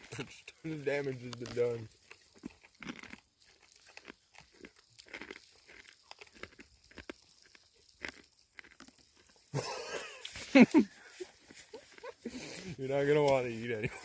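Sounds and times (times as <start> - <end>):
crunchy peas being chewed: 0.0 - 14.0.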